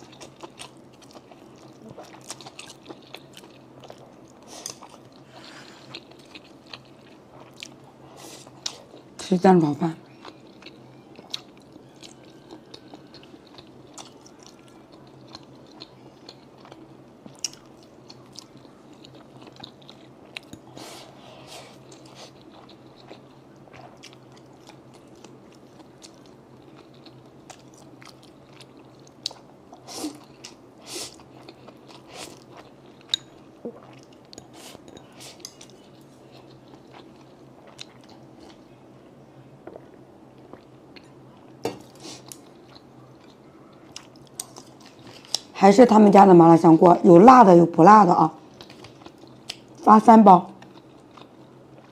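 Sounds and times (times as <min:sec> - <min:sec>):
close chewing and mouth sounds: 0:00.0 - 0:38.9, 0:39.6 - 0:46.1, 0:48.4 - 0:51.9.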